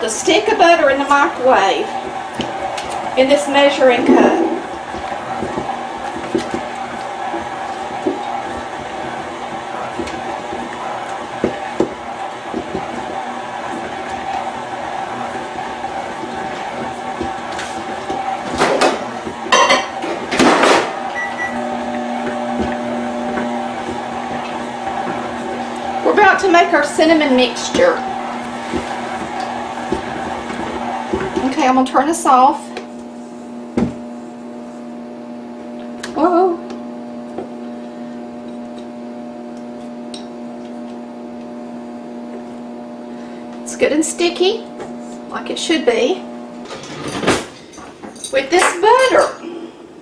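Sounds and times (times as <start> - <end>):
microwave oven humming: 0.0 - 50.0
stand mixer kneading dough: 0.0 - 50.0.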